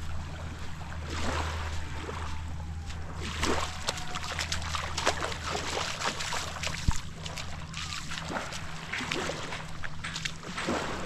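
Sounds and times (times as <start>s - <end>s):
low motor hum: 0.0s - 11.0s
water sloshing and splashing: 0.0s - 11.0s.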